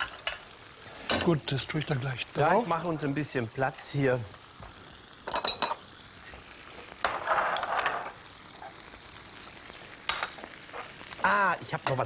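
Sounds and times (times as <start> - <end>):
food sizzling in frying pans: 0.0 - 12.0.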